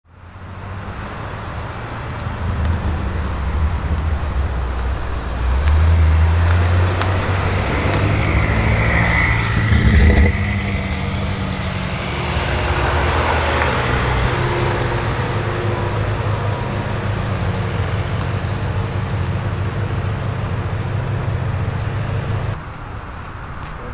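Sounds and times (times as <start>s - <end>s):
car engine revving: 0.1s - 22.6s.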